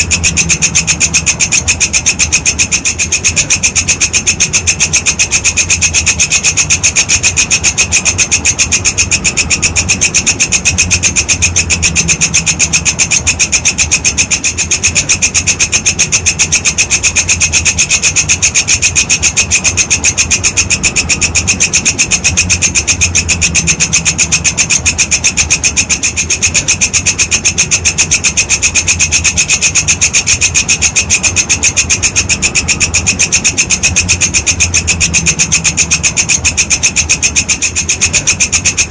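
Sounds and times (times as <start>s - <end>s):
insect chirring: 0.0s - 38.9s.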